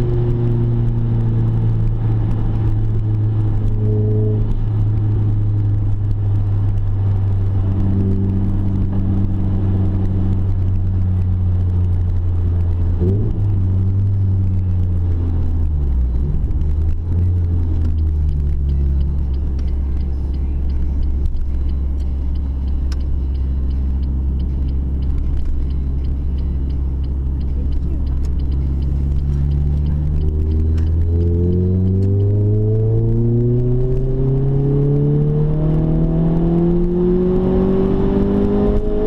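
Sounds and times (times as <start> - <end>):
car engine droning: 0.0 - 39.0.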